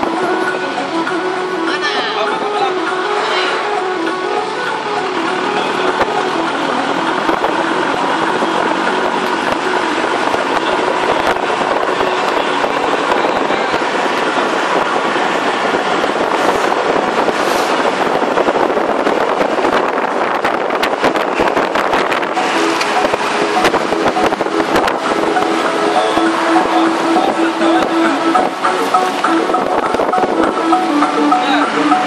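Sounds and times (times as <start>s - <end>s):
bus engine and road noise: 0.0s - 32.0s
rattling of seats and windows: 0.0s - 32.0s.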